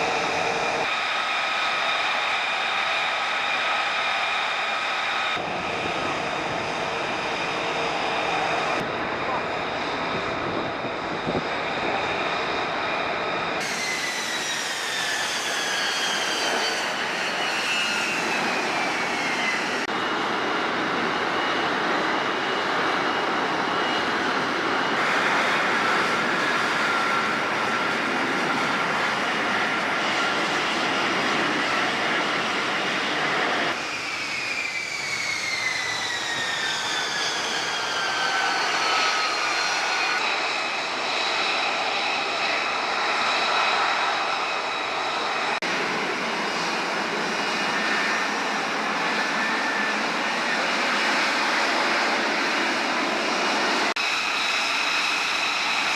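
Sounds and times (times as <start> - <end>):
jet engine rush and whine: 0.0 - 55.9.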